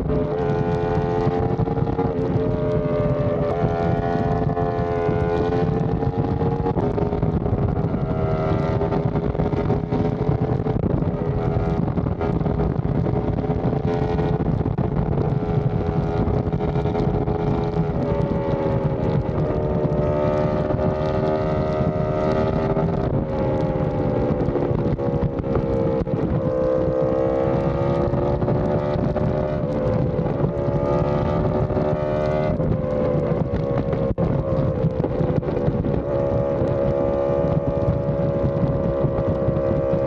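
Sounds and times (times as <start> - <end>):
motorcycle engine cruising: 0.0 - 40.0
wind noise on microphone: 0.0 - 40.0.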